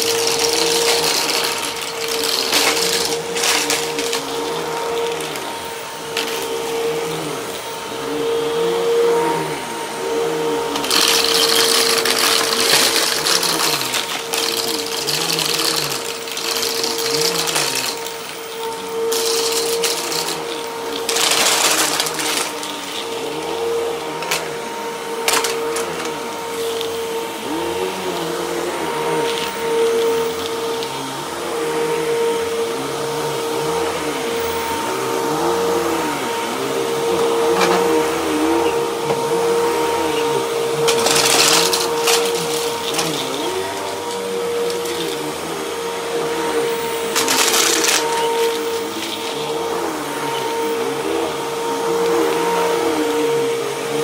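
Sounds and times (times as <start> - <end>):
vacuum cleaner running on a rug: 0.0 - 54.0.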